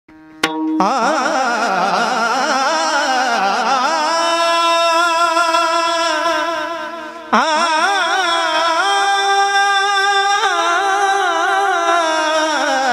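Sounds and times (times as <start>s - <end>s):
man singing: 0.8s - 12.9s.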